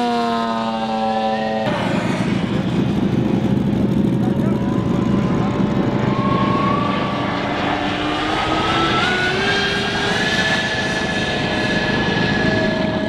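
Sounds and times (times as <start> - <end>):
electric fans whining: 0.0 - 13.0.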